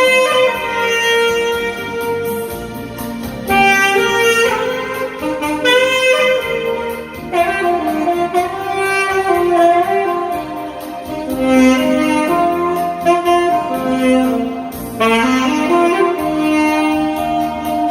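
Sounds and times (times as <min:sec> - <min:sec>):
instrumental accompaniment: 0:00.0 - 0:17.9
saxophone slow melody: 0:00.0 - 0:17.9.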